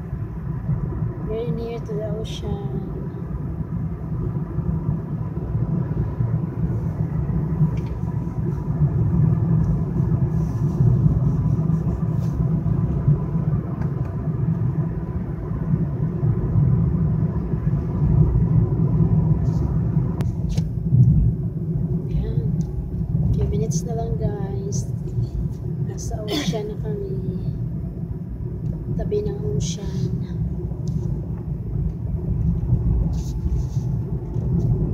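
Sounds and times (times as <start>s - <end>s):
car cabin road and engine rumble: 0.0s - 34.9s.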